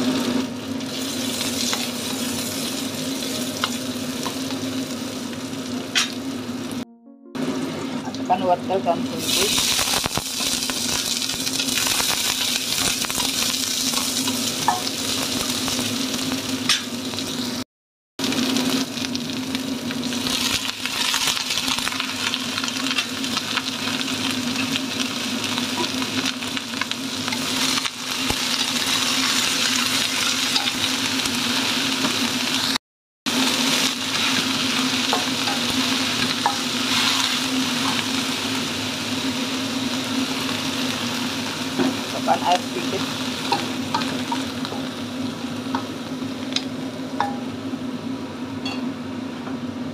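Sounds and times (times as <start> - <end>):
vegetables sizzling in a wok: 0.0 - 6.8, 7.4 - 17.6, 18.2 - 49.9.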